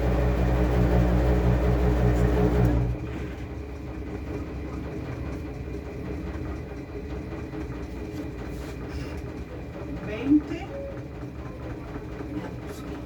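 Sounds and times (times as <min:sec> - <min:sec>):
washing machine motor hum: 0:00.0 - 0:13.0.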